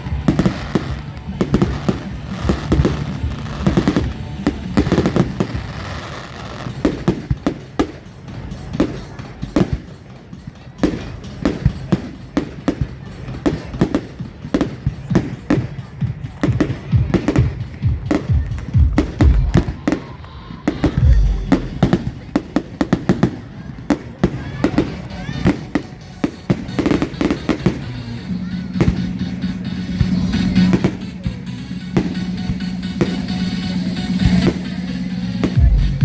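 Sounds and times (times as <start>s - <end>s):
fireworks bangs and cracks: 0.0s - 36.0s
music playing: 0.0s - 36.0s.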